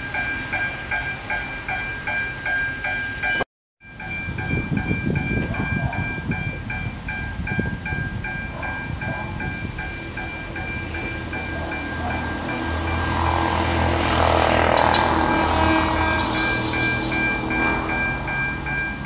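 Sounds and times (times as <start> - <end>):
electric train rumble: 0.0 - 19.0.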